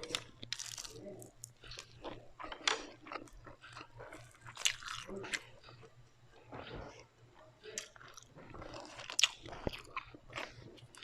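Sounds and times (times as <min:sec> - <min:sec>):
chewing crispy fried food: 0:00.0 - 0:11.0.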